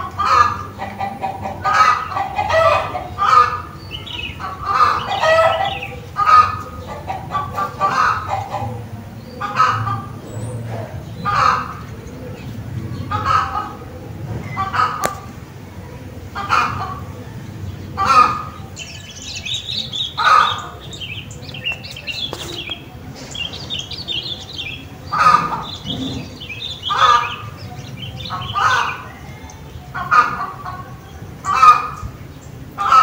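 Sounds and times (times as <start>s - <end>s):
large bird loud calls: 0.0s - 15.5s, 16.2s - 33.0s
small birds twittering: 0.0s - 33.0s.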